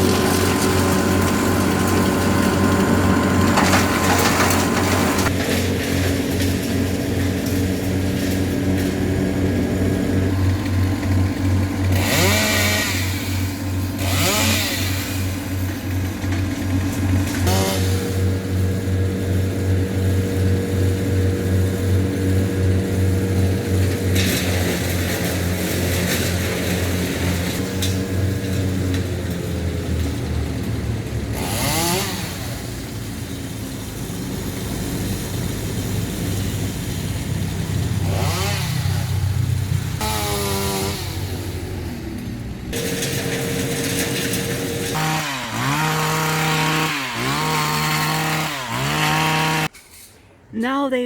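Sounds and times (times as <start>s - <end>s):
small petrol engine running: 0.0s - 49.7s.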